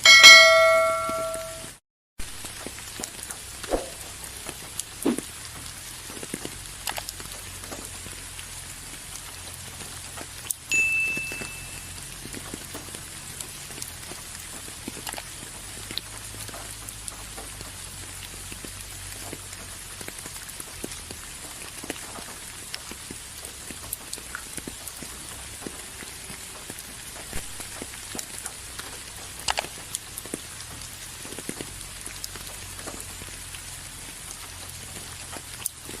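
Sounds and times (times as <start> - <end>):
steady rain falling: 2.2 - 36.0.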